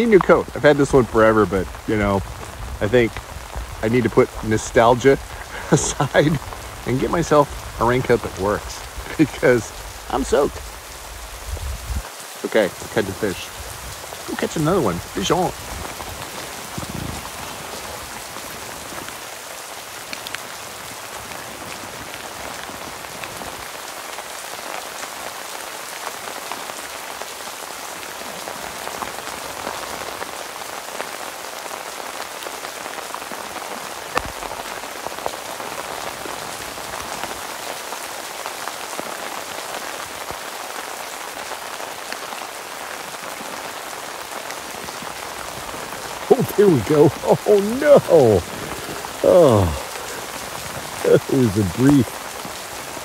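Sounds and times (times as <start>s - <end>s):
rain falling on lake: 0.0s - 53.0s.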